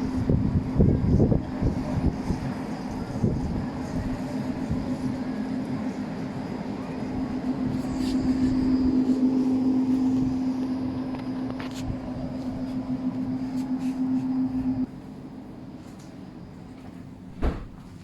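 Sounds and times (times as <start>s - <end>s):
steady engine drone: 0.0s - 15.8s.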